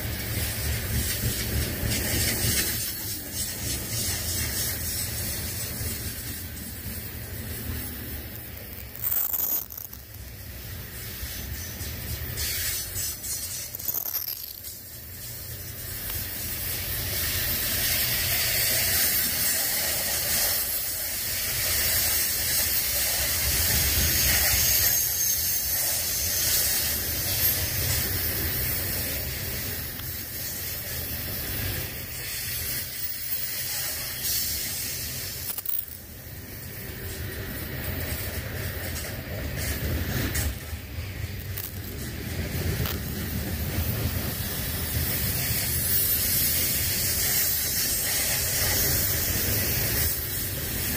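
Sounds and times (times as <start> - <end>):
freight train rumble: 0.0 - 9.2, 10.0 - 14.0, 14.6 - 50.9
steel wheels hissing on rail: 0.0 - 50.9.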